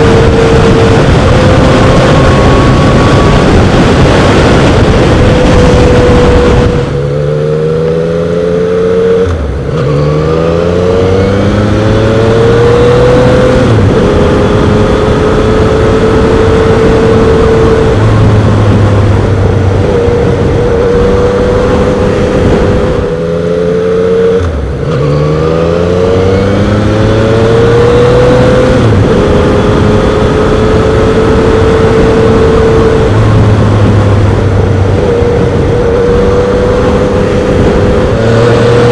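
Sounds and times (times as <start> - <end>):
motorcycle engine accelerating: 0.0 - 38.9
wind on microphone: 0.0 - 38.9.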